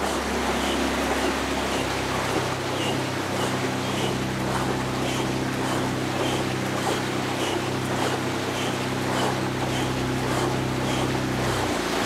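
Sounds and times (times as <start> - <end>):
kayak paddle strokes splashing: 0.0 - 12.0
motorboat engine humming: 0.0 - 12.0.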